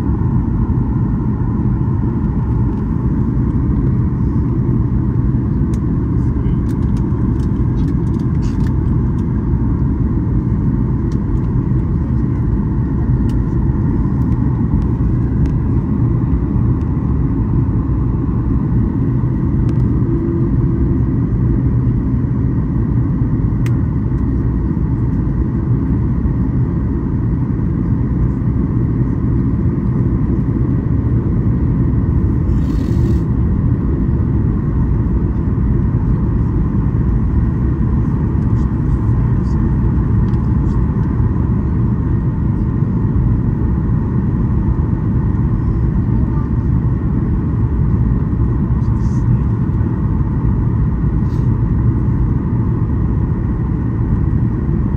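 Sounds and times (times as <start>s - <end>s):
faint steady whine: 0.0s - 54.9s
jet engine and airflow rumble: 0.0s - 54.9s.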